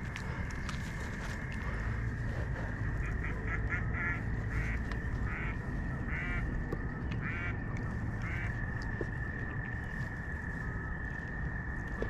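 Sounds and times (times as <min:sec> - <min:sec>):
animal calling: 0:00.0 - 0:10.7
low rumble: 0:00.0 - 0:12.0.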